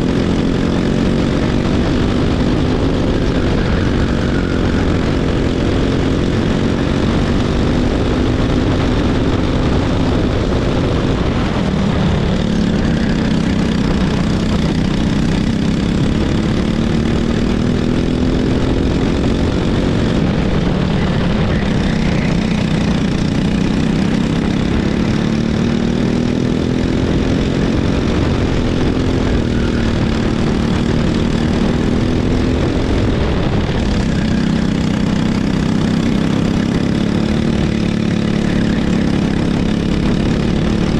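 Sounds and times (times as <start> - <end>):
kart engine accelerating: 0.0 - 40.9.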